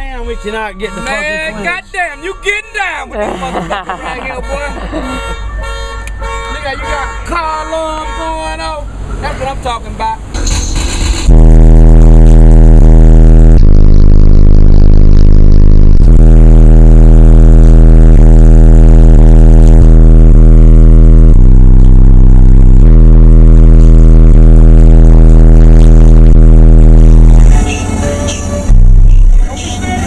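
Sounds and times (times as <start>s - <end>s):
distorted loud bass music: 0.0s - 7.5s, 10.4s - 30.0s.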